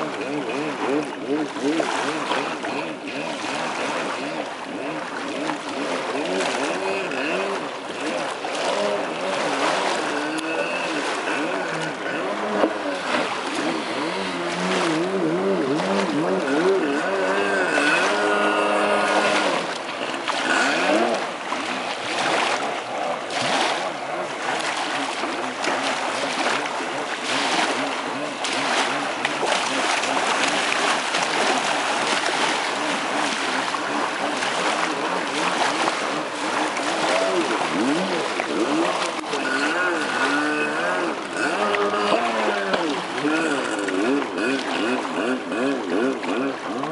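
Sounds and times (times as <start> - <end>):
watercraft engine revving: 0.0 - 46.9.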